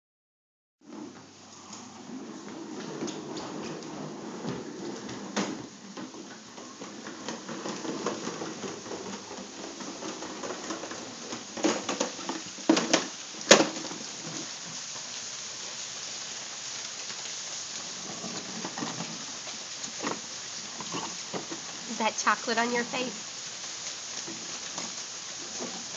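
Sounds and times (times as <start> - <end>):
plastic toy rolling on hard floor: 0.8 - 15.1, 17.1 - 21.9, 24.2 - 25.9.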